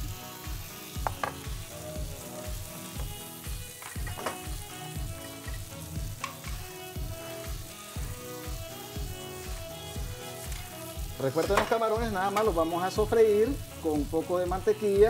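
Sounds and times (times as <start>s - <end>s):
background music with a beat: 0.0s - 15.0s
shrimp sizzling in a frying pan: 0.0s - 15.0s.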